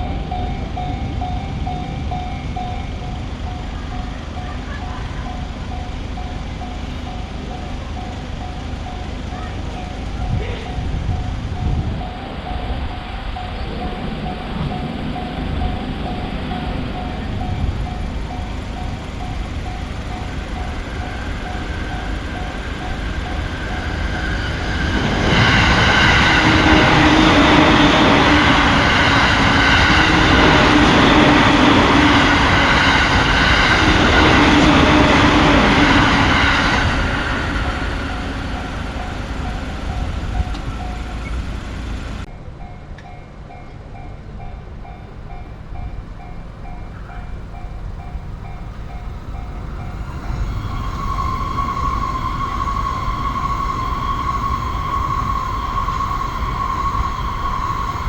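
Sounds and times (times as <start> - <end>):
electric train passing: 0.0 - 58.0
railroad crossing alarm dinging: 0.0 - 58.0.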